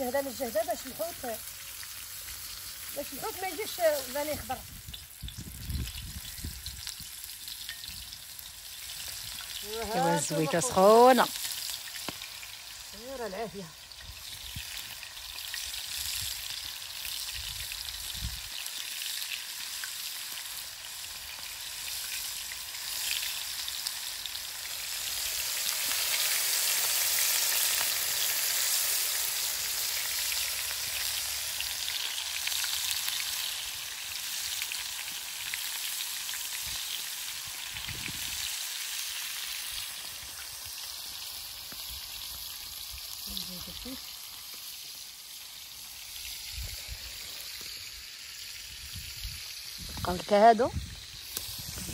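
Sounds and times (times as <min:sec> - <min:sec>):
fish sizzling in a pan: 0:00.0 - 0:51.9.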